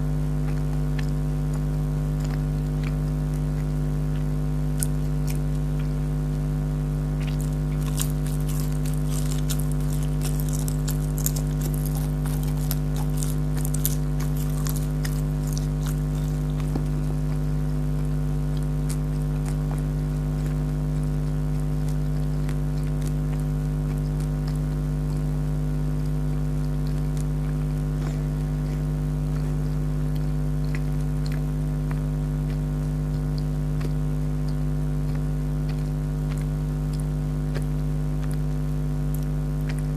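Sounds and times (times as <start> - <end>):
chewing and crunching: 0.0 - 39.9
loud steady low hum: 0.0 - 39.9
sticky mouth clicks: 0.0 - 39.9.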